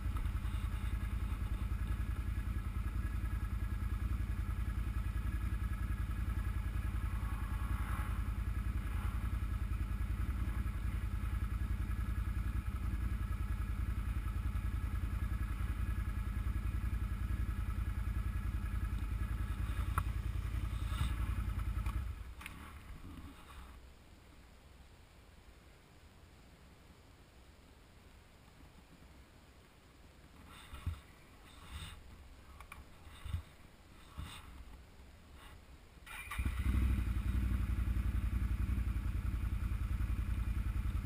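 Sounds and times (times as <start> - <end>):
atv engine idling: 0.0 - 24.0, 30.4 - 41.0.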